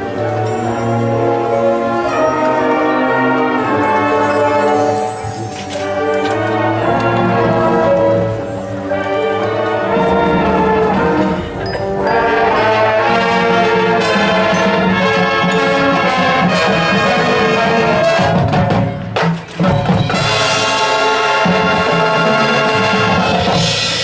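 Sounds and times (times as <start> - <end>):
brass chords: 0.0 - 24.0
marching band percussion: 0.0 - 24.0.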